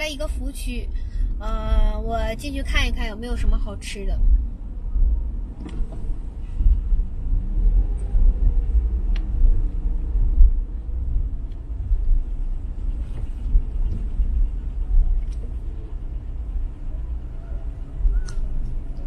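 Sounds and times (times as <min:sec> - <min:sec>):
wind buffeting microphone: 0:03.4 - 0:19.0.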